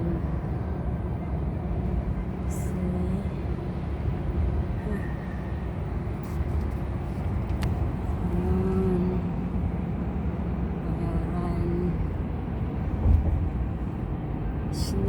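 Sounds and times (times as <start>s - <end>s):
motor vehicle running: 0.0s - 15.0s.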